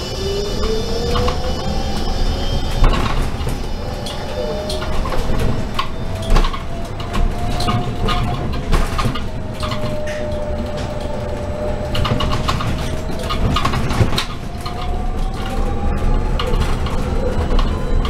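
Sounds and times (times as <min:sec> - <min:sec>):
electric bus drivetrain whine: 0:00.0 - 0:18.0
interior rattles and clicks: 0:00.0 - 0:18.0
road rumble: 0:00.0 - 0:18.0.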